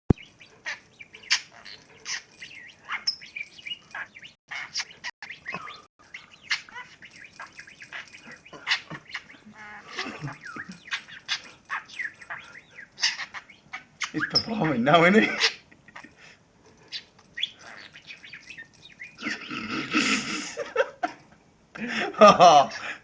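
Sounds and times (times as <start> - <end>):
budgerigar chattering and warbling: 0.1 - 16.3, 16.9 - 20.0.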